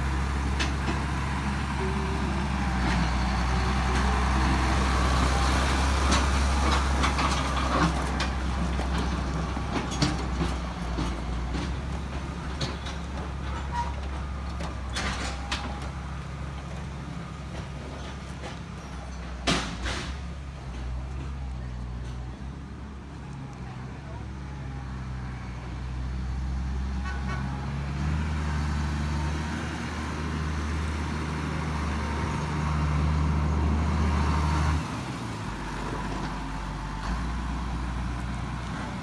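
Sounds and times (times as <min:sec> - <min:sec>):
heavy vehicle engine running: 0:00.0 - 0:39.0.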